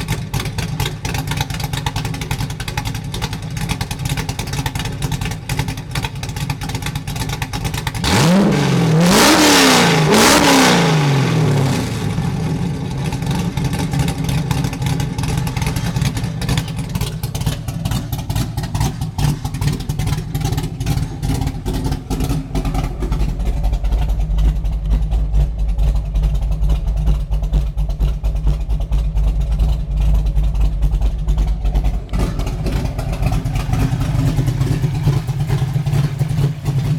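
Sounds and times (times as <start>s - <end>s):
lumpy engine idle rumble: 0.0s - 8.1s, 11.0s - 36.9s
car engine throttle blips: 0.0s - 36.9s.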